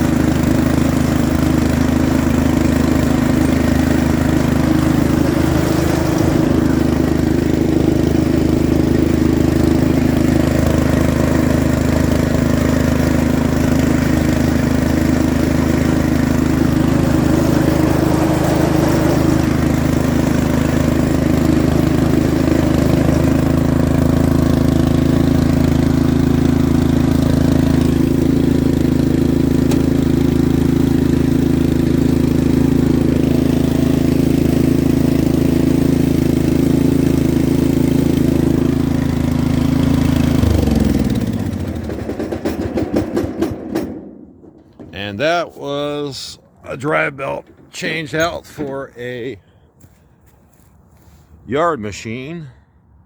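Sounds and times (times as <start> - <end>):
riding lawn mower engine: 0.0 - 53.0.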